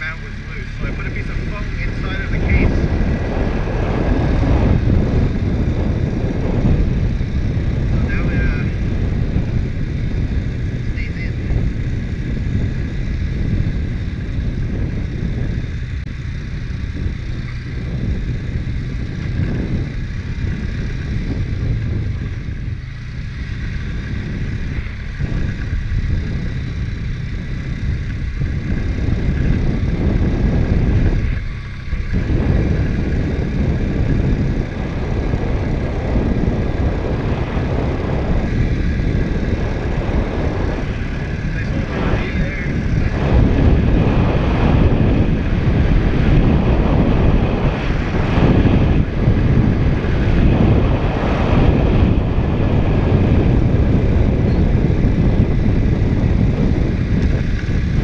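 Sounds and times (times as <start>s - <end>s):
atv engine droning with whine: 0.0s - 58.0s.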